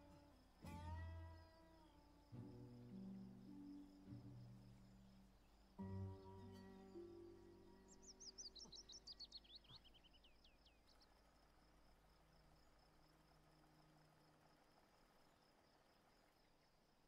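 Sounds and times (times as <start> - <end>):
bird chirping: 0.0 - 17.0
insects chirring: 0.0 - 17.0.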